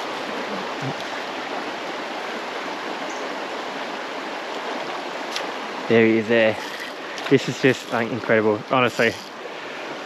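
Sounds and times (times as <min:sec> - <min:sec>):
creek water babbling over rocks: 0:00.0 - 0:10.0.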